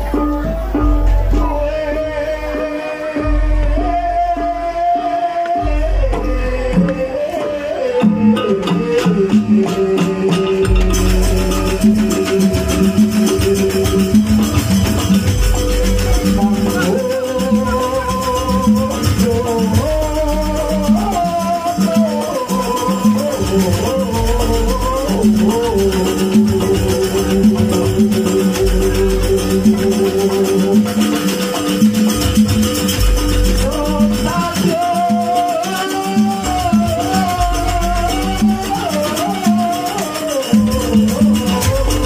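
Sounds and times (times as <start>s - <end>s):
low drum beats: 0.0s - 39.7s, 40.5s - 42.0s
sliding gamelan melody: 0.0s - 42.0s.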